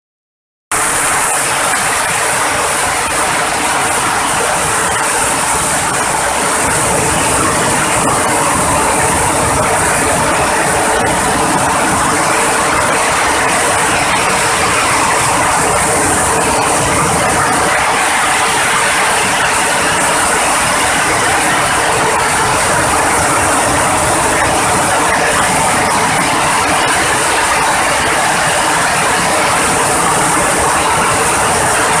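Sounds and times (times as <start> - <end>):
steady machine hum: 0.7 - 32.0.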